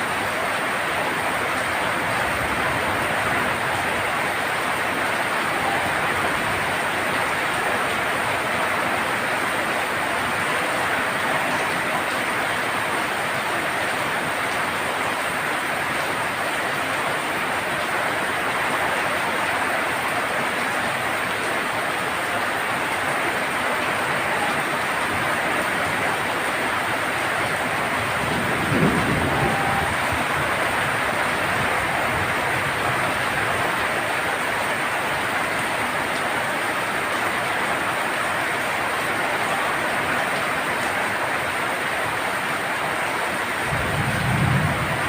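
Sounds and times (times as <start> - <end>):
heavy rain on a tin roof: 0.0 - 45.0.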